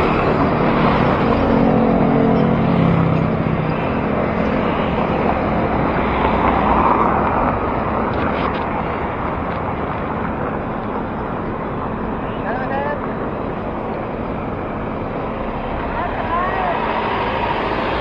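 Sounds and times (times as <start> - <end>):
road and wind noise: 0.0 - 18.0
vehicle engine humming: 0.0 - 18.0.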